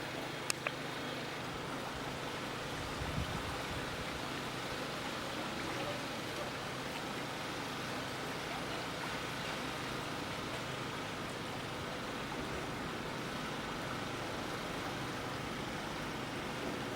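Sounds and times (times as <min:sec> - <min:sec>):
river water rushing: 0:00.0 - 0:16.9.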